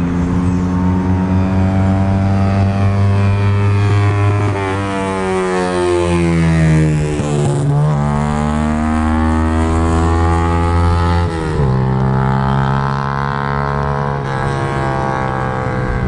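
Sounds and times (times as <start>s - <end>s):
motorcycle engine running loud: 0.0s - 16.0s.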